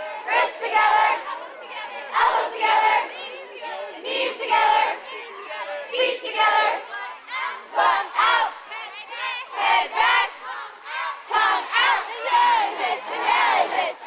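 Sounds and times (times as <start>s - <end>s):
crowd chanting a song: 0.0s - 14.0s.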